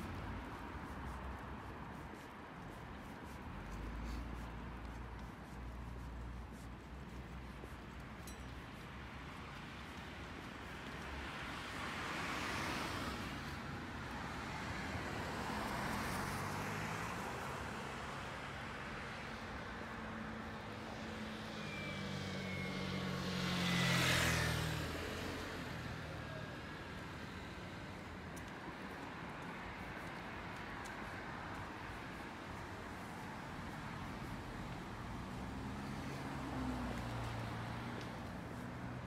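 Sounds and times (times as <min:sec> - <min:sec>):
cars passing: 0:00.0 - 0:39.0.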